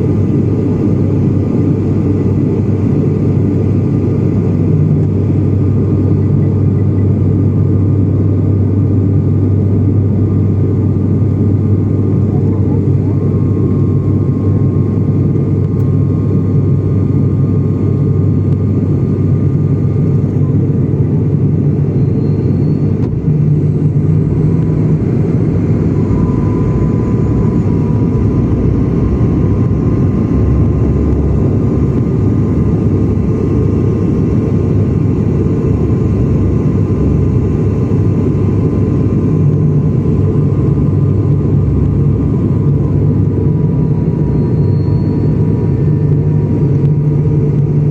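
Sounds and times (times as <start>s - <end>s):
airliner engine drone: 0.0s - 47.9s
faint steady whine: 0.0s - 47.9s.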